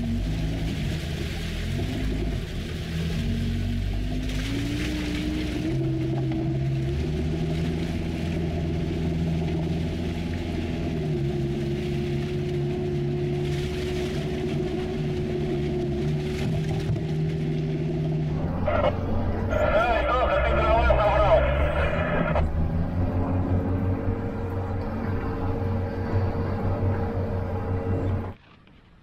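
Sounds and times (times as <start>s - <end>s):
off-road vehicle engine: 0.0s - 29.0s.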